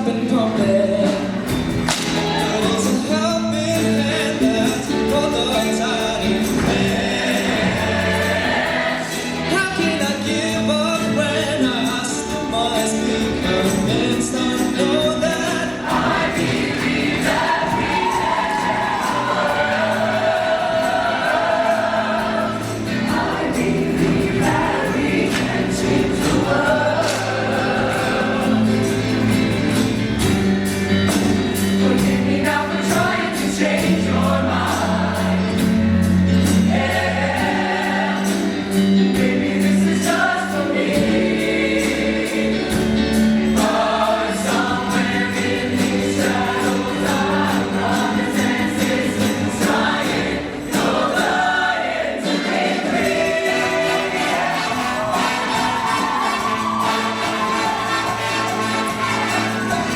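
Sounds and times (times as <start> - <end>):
live band playing: 0.0 - 59.9
choir singing in harmony: 1.0 - 59.9.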